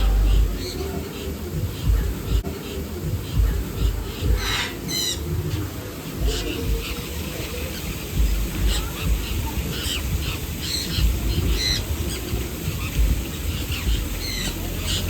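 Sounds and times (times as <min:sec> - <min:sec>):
small birds chirping: 0:00.0 - 0:15.0
low rumble: 0:01.5 - 0:15.0.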